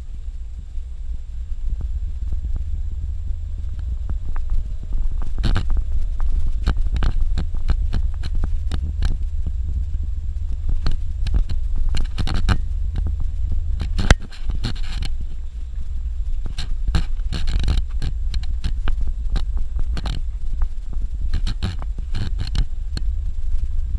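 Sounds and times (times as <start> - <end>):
vehicle rumbling on dirt road: 0.0 - 23.9
knocks and rattles: 1.6 - 23.9.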